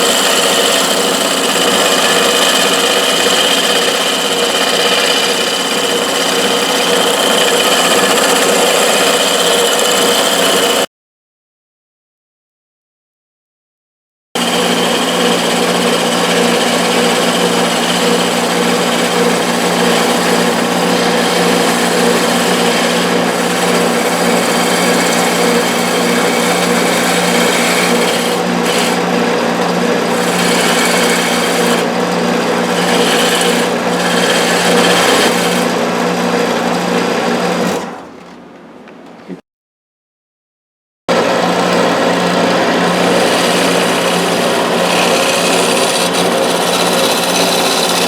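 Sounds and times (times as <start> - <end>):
tool cutting spinning wood: 0.0 - 10.9, 14.4 - 38.0, 41.1 - 48.0
wood lathe motor hum: 0.0 - 10.9, 14.4 - 38.0, 41.1 - 48.0.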